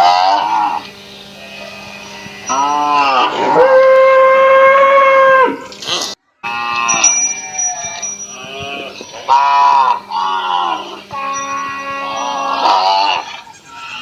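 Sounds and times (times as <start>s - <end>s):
cattle mooing: 0.0s - 14.0s.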